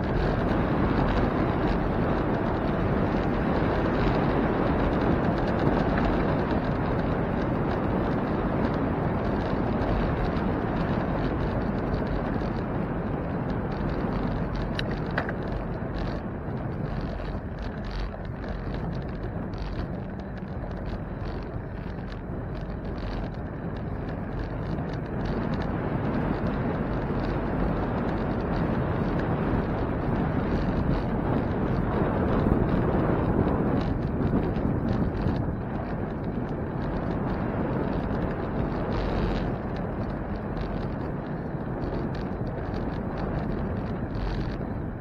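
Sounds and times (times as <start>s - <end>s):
wind rushing over microphone: 0.0s - 45.0s.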